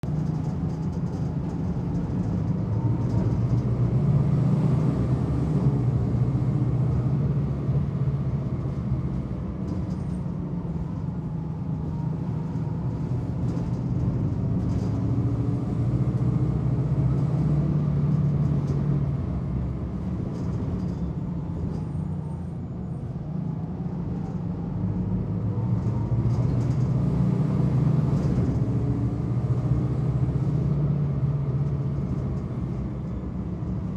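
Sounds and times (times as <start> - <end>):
bus engine rumble: 0.0 - 33.9.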